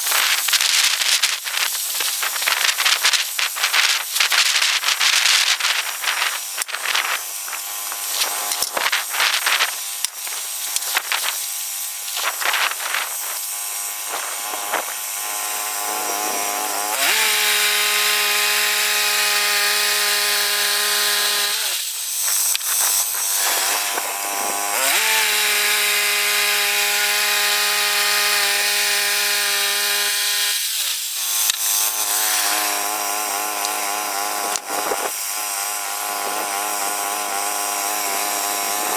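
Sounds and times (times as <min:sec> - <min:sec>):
saw blade whining: 0:00.0 - 0:38.9.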